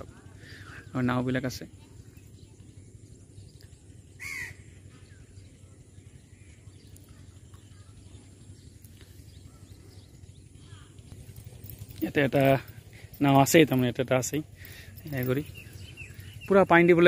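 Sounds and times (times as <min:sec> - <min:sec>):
bird calling: 0:00.0 - 0:17.0
faint bird chirps: 0:00.0 - 0:17.0.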